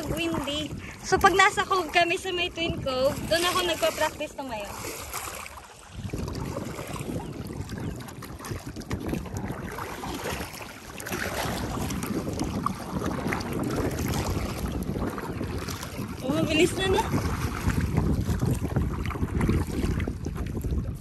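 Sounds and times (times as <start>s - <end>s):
water splashing against board: 0.0s - 21.0s
wind buffeting microphone: 0.0s - 21.0s.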